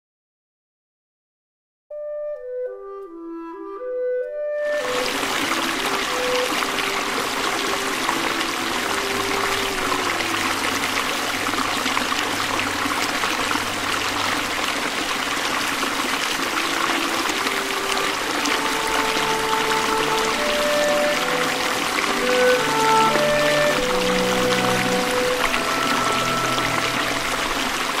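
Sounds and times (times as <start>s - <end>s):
soft slow melody: 1.9s - 14.9s, 16.6s - 28.0s
stream rushing over stones: 4.7s - 28.0s.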